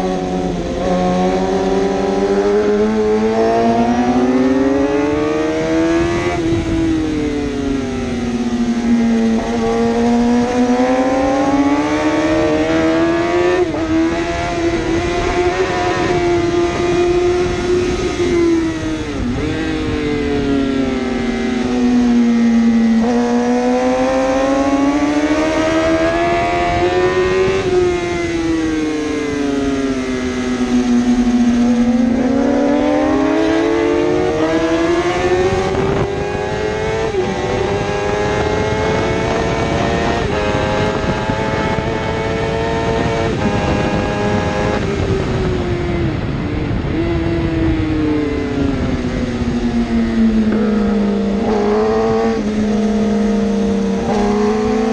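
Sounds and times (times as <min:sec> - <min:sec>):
superbike engine accelerating: 0:00.0 - 0:54.9.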